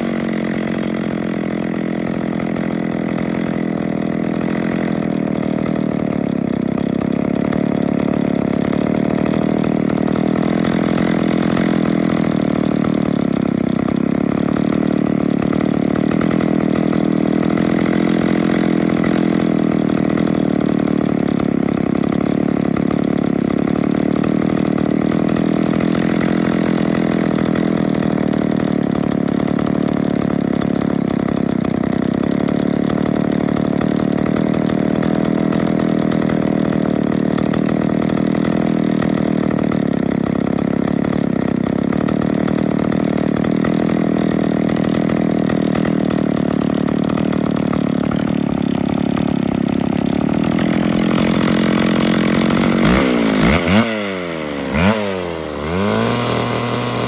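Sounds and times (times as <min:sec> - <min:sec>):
chainsaw idling: 0:00.0 - 0:57.0.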